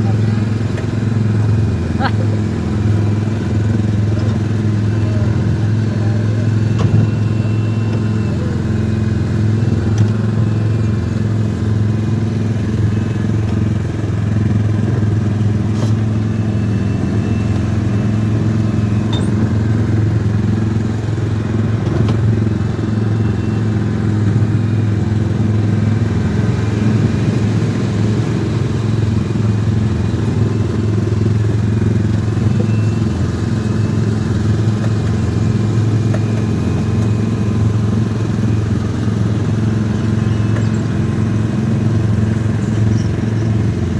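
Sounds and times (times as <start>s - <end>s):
car engine humming: 0.0s - 43.9s
road and traffic noise: 0.0s - 43.9s.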